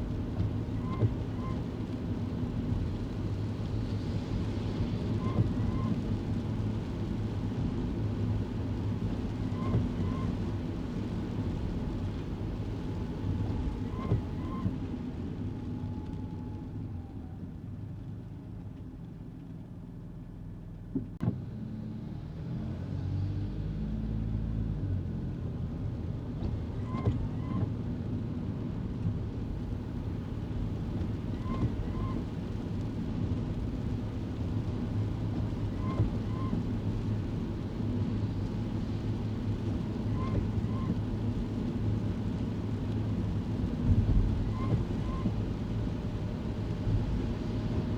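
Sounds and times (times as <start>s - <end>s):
car engine and road hum: 0.0s - 47.9s.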